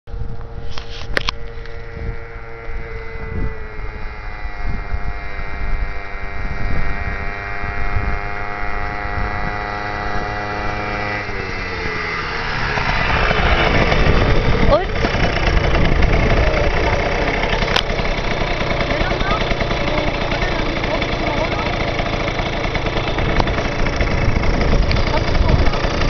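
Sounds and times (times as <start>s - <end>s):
minibike engine running: 0.1s - 26.0s.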